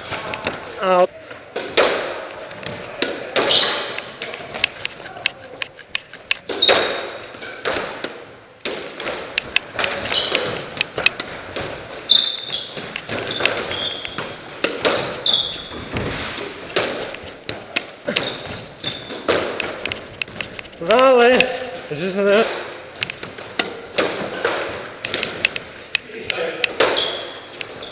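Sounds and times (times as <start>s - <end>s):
squash ball striking rackets and walls: 0.0s - 0.8s, 1.4s - 27.9s
shoes squeaking on wooden floor: 0.0s - 8.0s, 8.9s - 27.9s.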